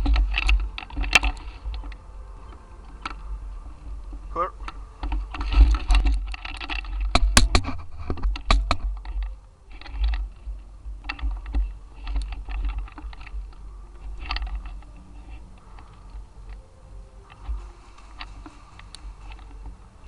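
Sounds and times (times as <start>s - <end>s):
low rumble of microphone handling: 0.0s - 20.0s
sharp clicks and rattles: 0.0s - 20.0s.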